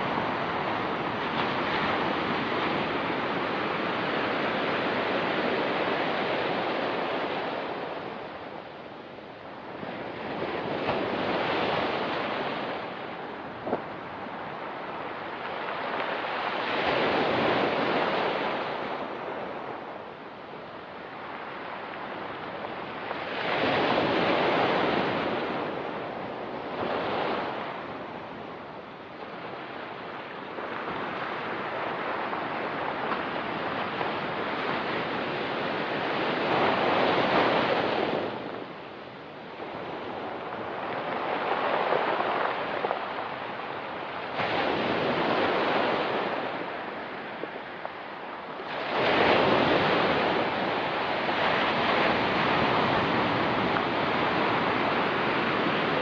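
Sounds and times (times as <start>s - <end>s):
waves breaking on rocky beach: 0.0s - 56.0s.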